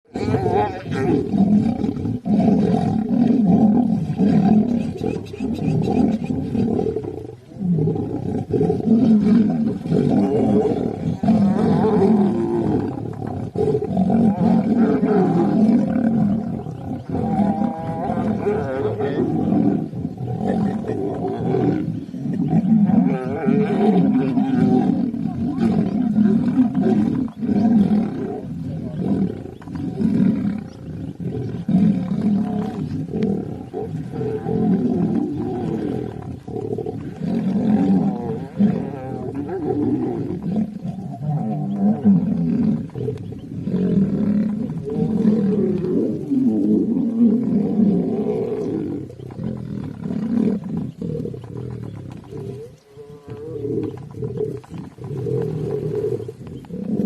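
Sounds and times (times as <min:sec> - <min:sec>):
lions growling and roaring: 0:00.1 - 0:57.0.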